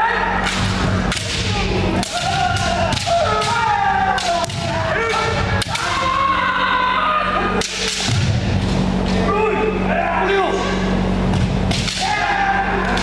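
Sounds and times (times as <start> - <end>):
people shouting: 0.0 - 8.4, 9.2 - 13.0
low hum: 0.0 - 13.0.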